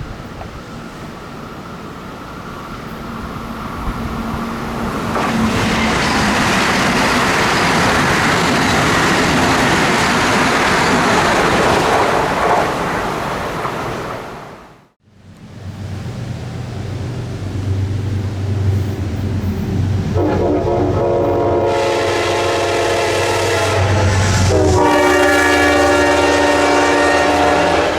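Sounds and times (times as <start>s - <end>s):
train passing at speed: 0.0s - 27.9s.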